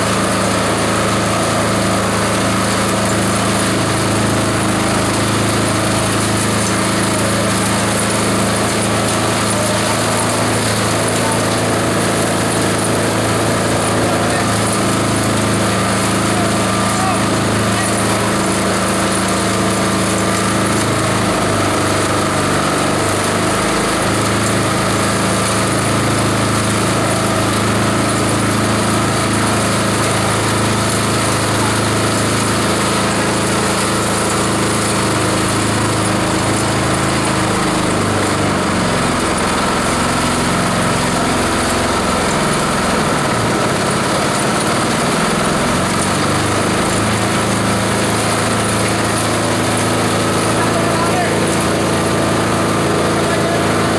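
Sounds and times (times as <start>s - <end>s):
shredder humming and grinding: 0.0s - 53.9s.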